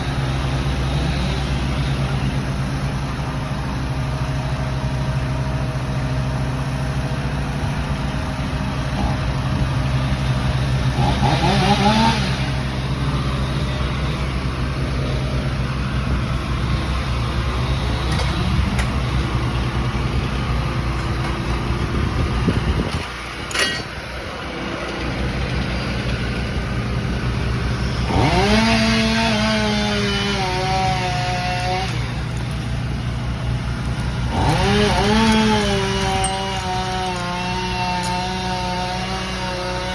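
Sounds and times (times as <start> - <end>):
chainsaw engine revving: 0.0 - 2.8, 8.6 - 39.9
chainsaw engine idling: 0.0 - 39.9.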